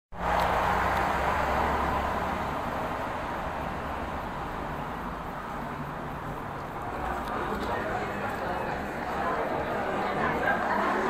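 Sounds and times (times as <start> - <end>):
cars hissing on road: 0.2 - 11.0.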